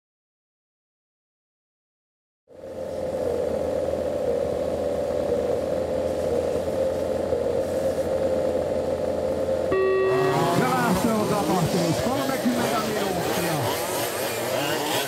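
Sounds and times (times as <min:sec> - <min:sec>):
small two-stroke engines buzzing: 0:02.5 - 0:15.0.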